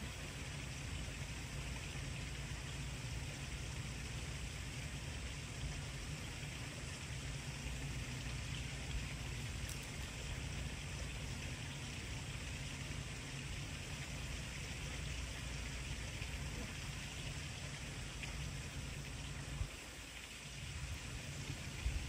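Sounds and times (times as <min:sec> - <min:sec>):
outdoor hiss: 0:00.0 - 0:22.0.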